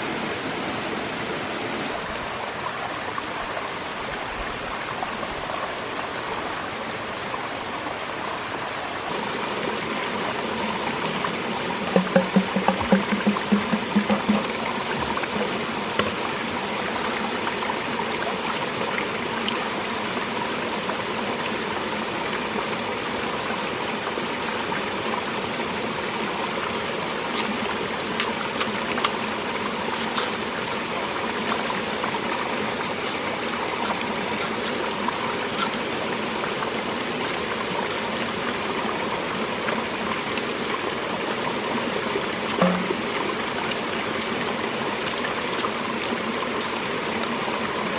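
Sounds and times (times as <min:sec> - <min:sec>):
running water: 0:00.0 - 0:47.9.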